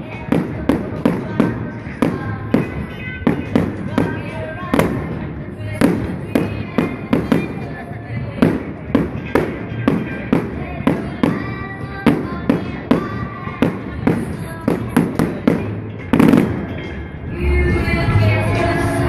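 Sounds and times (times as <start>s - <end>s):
fireworks bangs: 0.0s - 16.8s
music: 0.0s - 19.0s.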